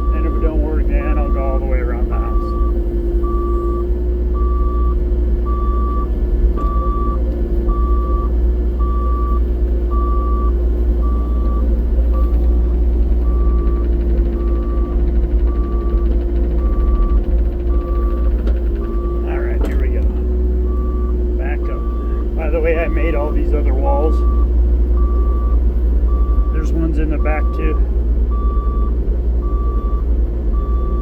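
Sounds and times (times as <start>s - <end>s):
diesel engine running: 0.0s - 31.0s
travel alarm beeping: 0.0s - 31.0s.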